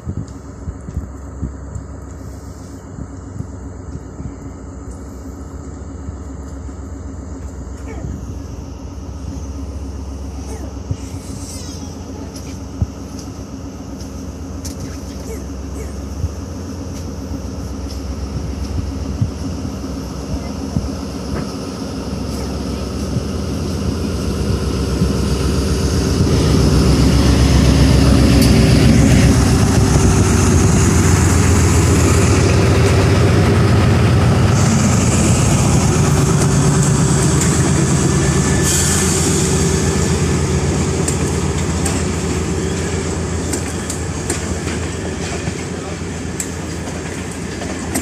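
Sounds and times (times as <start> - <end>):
diesel locomotive engine rumbling: 0.0 - 48.0.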